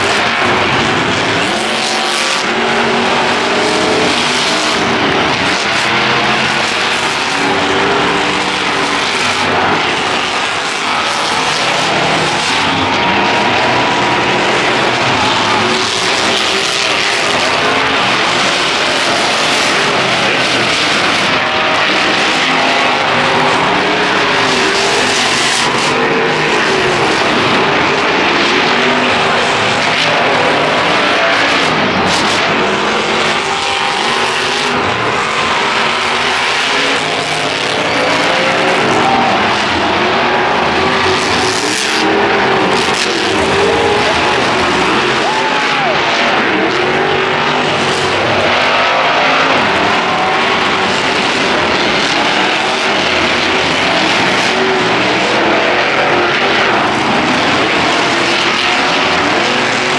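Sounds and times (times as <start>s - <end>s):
monster truck engines revving: 0.0s - 59.9s.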